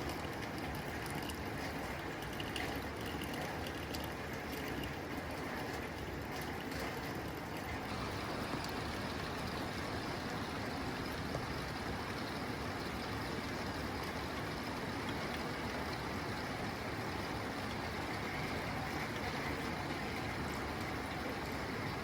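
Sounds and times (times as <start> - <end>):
rain on a tin roof: 0.0 - 22.0.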